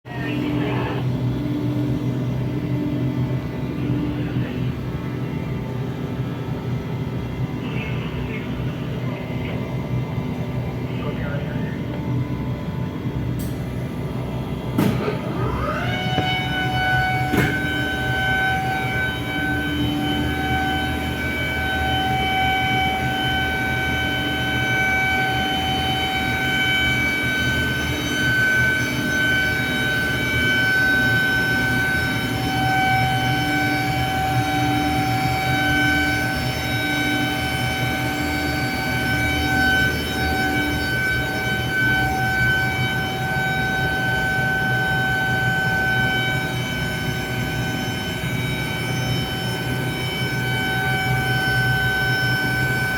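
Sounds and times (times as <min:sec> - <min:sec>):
chiller high-pitched whine: 0:00.1 - 0:52.9
low machine hum: 0:00.1 - 0:52.9.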